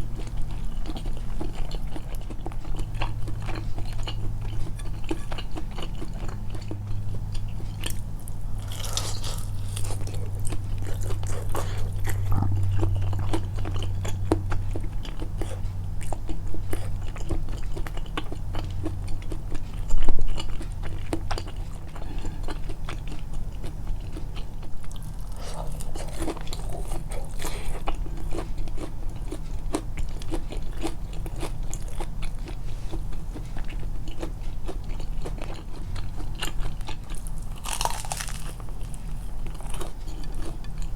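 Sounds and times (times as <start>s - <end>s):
chewing fried chicken: 0.0s - 40.9s.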